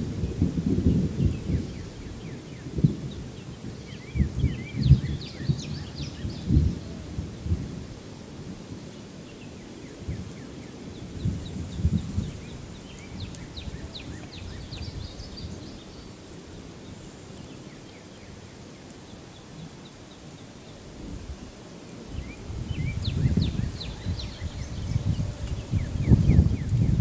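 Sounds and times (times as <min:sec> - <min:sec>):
birds chirping: 0:01.2 - 0:07.5, 0:09.0 - 0:27.0.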